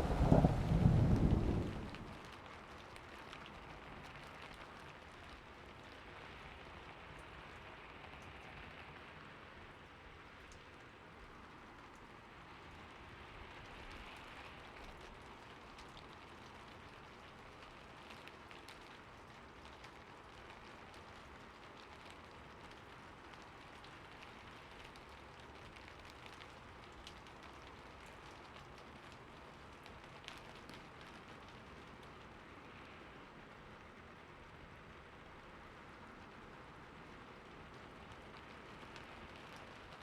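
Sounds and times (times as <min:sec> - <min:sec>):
faint steady rain: 0:00.0 - 0:40.0.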